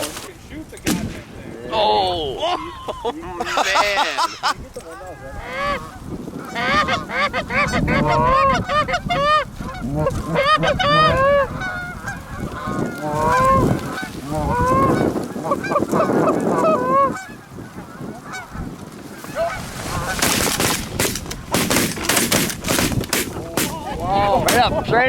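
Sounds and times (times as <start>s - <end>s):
geese honking and clucking: 3.4s - 25.0s.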